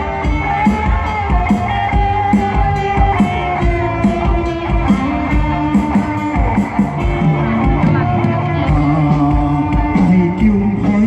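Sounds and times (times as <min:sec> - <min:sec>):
upbeat band music with guitar: 0:00.0 - 0:11.0.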